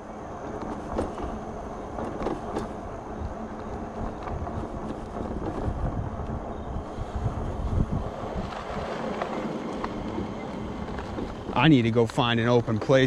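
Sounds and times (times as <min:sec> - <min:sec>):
tyres rolling on asphalt: 0:00.0 - 0:13.0
wind on microphone: 0:00.2 - 0:12.0.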